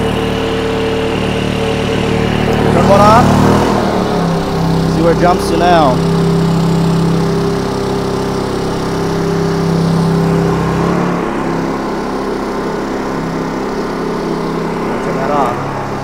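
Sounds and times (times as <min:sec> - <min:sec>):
generators running: 0:00.0 - 0:16.0.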